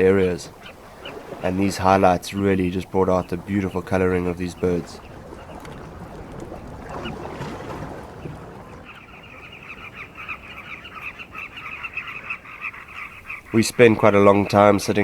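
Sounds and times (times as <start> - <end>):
birds chattering in a colony: 0.0 - 15.0.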